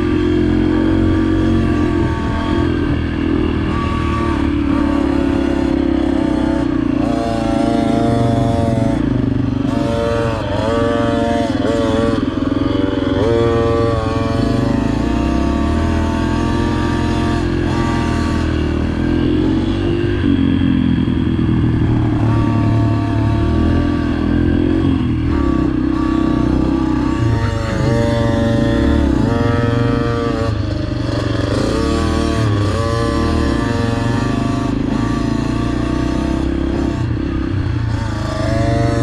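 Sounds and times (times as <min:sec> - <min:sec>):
dirt bike engine revving: 0:00.0 - 0:39.0
steady engine sound: 0:00.0 - 0:39.0.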